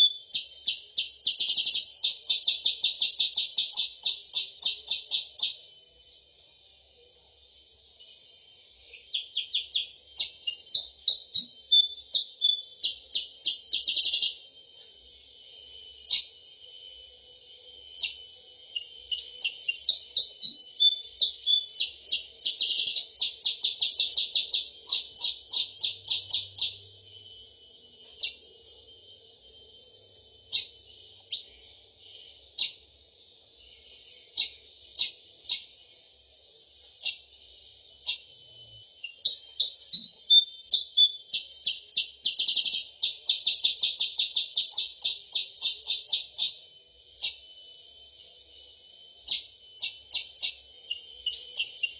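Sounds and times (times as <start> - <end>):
bird song sharp chips and trills: 0.0 - 5.7, 8.0 - 14.8, 15.4 - 17.0, 17.8 - 29.2, 30.4 - 36.2, 36.8 - 37.4, 38.0 - 38.4, 39.0 - 47.6, 49.2 - 51.9.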